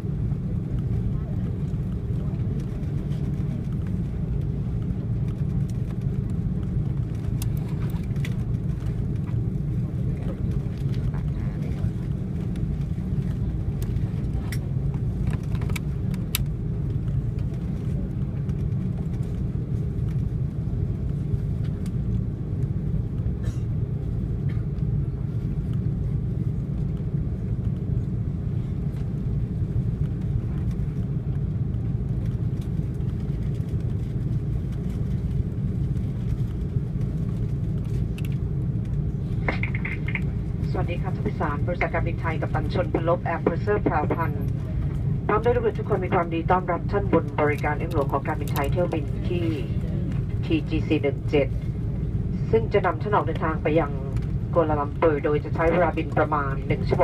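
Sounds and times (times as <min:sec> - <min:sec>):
airliner cabin low rumble: 0:00.0 - 0:57.0.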